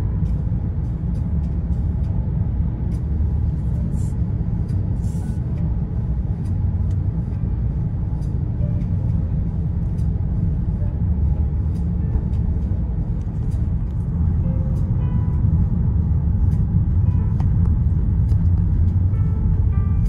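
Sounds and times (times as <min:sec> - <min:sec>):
car cabin engine and tyre rumble: 0:00.0 - 0:20.0.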